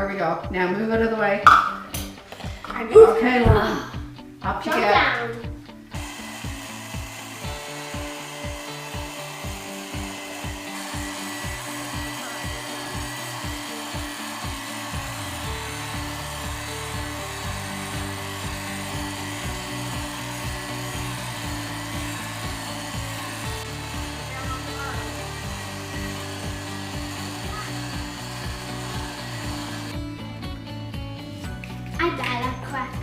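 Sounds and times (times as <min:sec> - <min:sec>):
background music with steady beat: 0:00.0 - 0:33.0.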